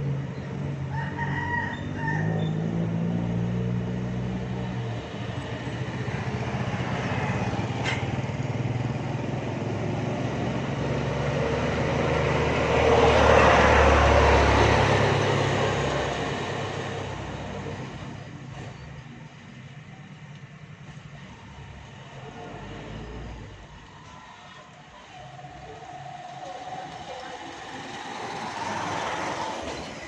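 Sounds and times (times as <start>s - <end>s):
motor vehicle passing by: 0.0s - 19.1s, 21.2s - 30.0s.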